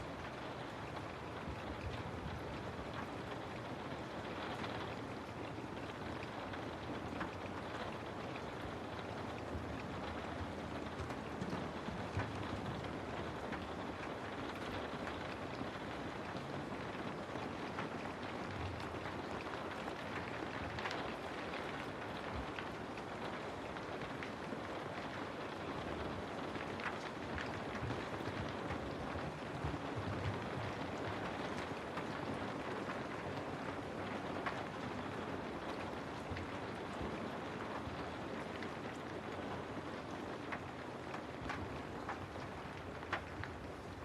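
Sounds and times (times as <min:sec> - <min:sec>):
raindrops tapping close by: 0:00.0 - 0:44.0
steady rain falling: 0:00.0 - 0:44.0.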